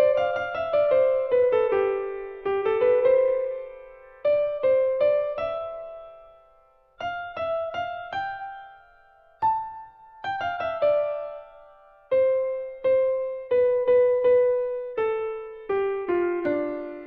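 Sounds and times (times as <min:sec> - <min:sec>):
gentle piano notes: 0:00.0 - 0:17.0.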